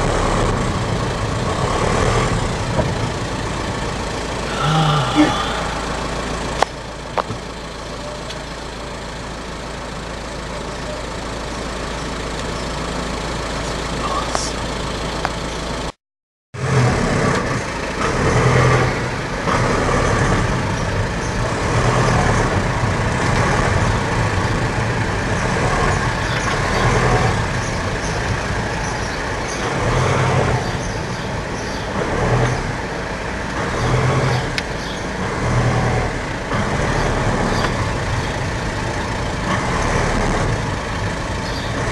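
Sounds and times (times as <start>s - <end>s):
car engine and road rumble: 0.0s - 16.0s, 16.6s - 41.9s.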